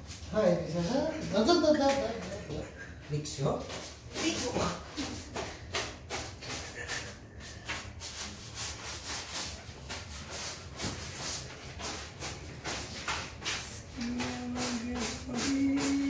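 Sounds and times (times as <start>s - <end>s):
soft rustling and hissing: 2.2s - 16.0s.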